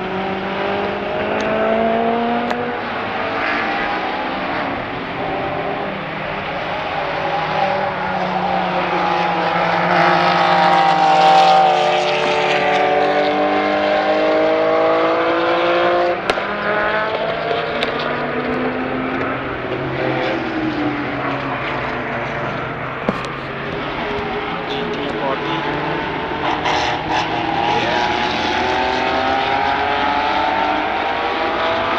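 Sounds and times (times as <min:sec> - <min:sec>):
racing car engine at high revs: 0:00.0 - 0:31.9.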